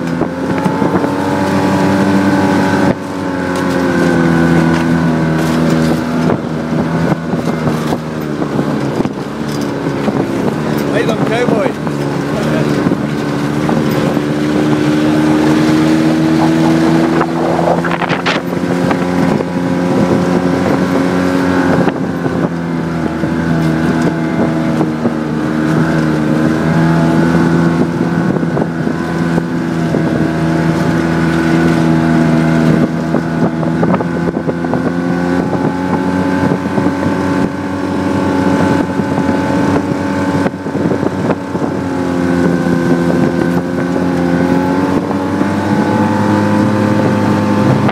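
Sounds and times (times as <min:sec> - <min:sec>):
snowmobile engine running: 0:00.0 - 0:47.9.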